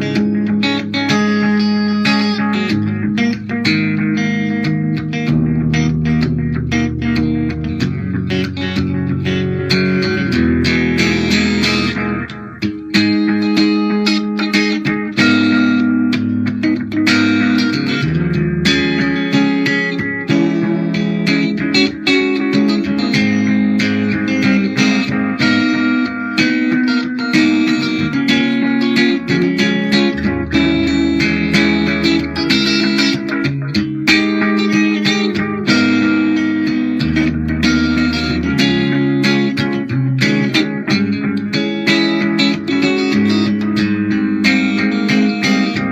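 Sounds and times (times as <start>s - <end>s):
clean electric guitar playing: 0.0s - 45.9s.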